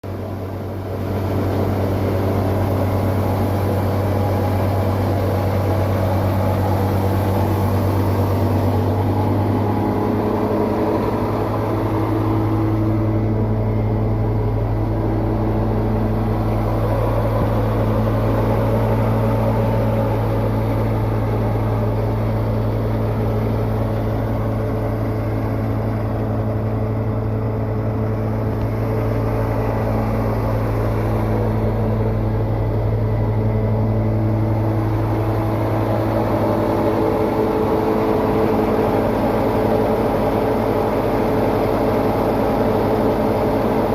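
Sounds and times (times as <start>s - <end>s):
deeper hum: 0.0s - 43.9s
truck engine and vacuum pump hum: 0.0s - 43.9s.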